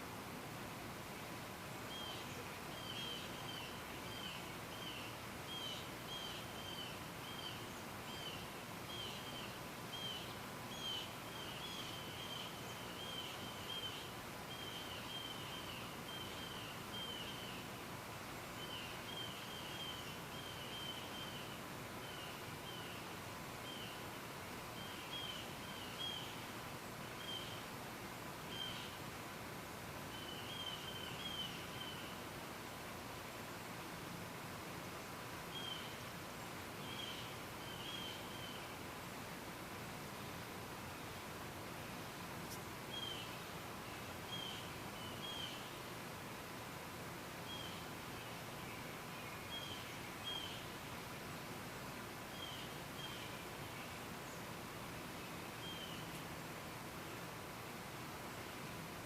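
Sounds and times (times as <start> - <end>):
outdoor background noise: 0.0 - 59.0.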